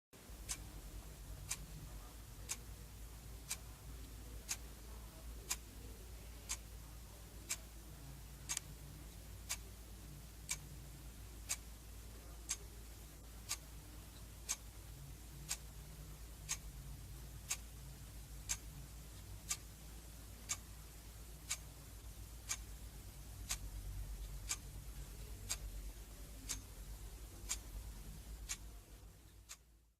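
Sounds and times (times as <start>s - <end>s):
mechanical alarm clock ticking: 0.2s - 29.9s.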